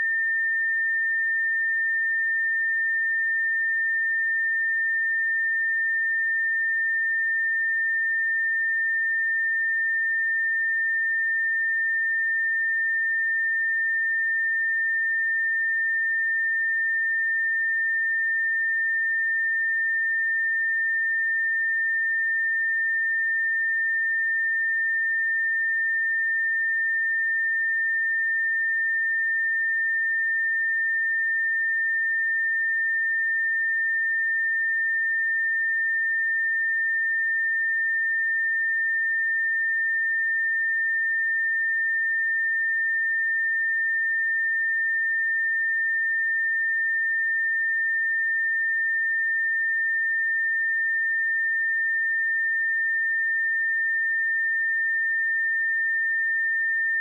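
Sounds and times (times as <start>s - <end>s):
sine wave test tone: 0.0s - 57.0s.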